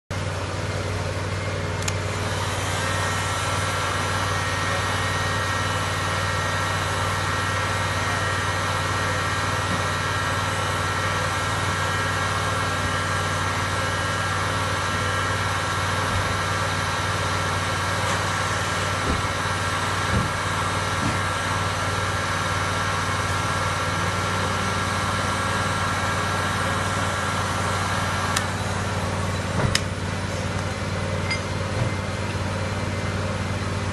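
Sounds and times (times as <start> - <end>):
high steady whine: 0.1 - 33.9
machine humming: 0.1 - 33.9.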